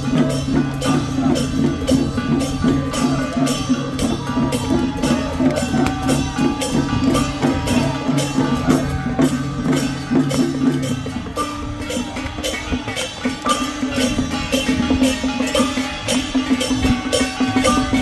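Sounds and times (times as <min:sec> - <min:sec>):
fast procession percussion and drums: 0:00.0 - 0:18.0.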